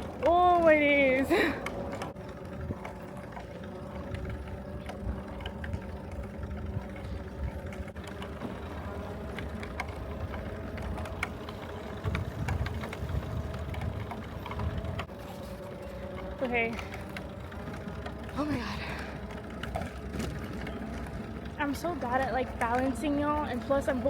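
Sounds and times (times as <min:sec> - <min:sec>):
bicycle rolling rumble: 0:00.0 - 0:24.0
bike clicks and rattles: 0:00.0 - 0:24.0.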